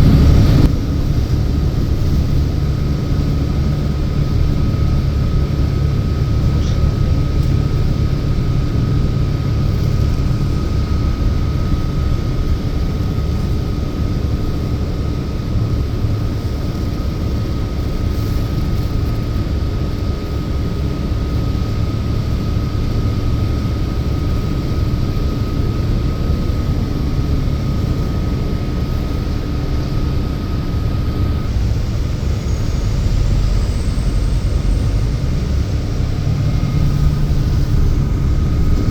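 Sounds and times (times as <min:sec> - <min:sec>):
bus engine and road rumble: 0:00.0 - 0:38.9
faint steady whine: 0:00.0 - 0:38.9.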